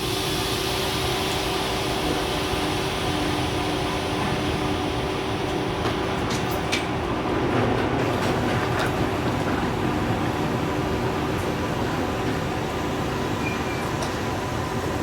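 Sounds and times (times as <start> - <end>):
high-speed train rushing: 0.0 - 15.0.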